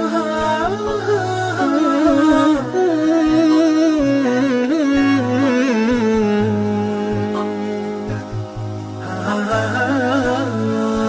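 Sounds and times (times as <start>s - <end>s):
gliding melodic line: 0.0s - 11.0s.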